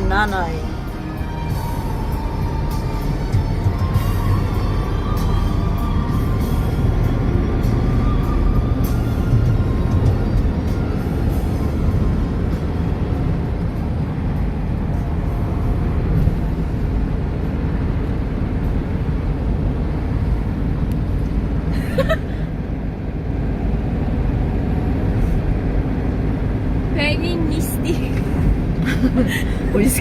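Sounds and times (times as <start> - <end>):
car interior rumble: 0.0 - 30.0.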